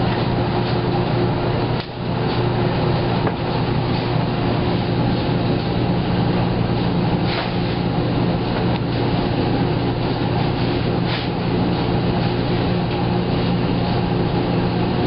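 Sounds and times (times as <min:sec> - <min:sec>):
laundromat machines humming: 0:00.0 - 0:15.0.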